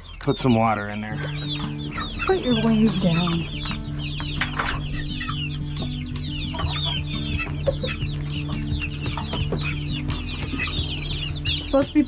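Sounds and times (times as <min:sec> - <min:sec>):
chicks peeping and chirping: 0:00.0 - 0:12.0.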